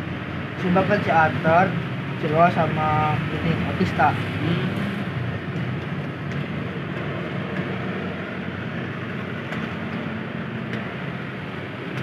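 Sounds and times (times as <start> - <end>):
roadside traffic noise: 0.0 - 12.0.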